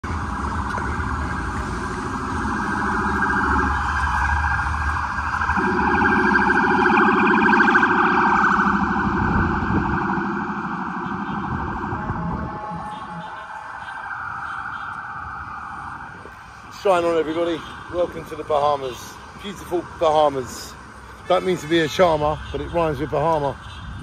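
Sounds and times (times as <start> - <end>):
ambulance siren warbling: 0.0 - 20.4.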